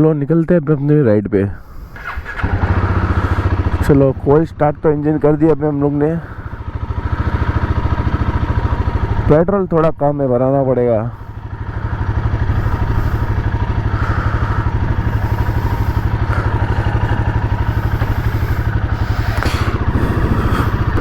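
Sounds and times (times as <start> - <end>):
motorcycle engine running: 1.6 - 21.0.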